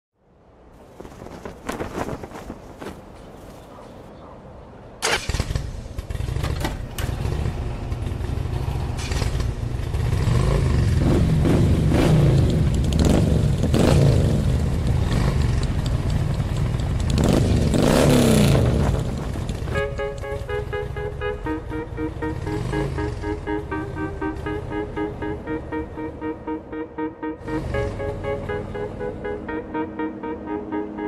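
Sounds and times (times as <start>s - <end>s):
engine rumbling and revving: 5.0s - 31.0s.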